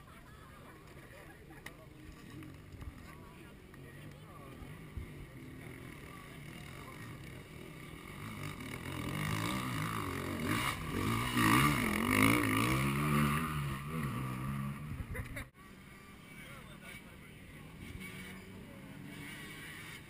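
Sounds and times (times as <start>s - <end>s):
motorcycle engine revving: 2.0s - 15.5s, 16.8s - 20.0s.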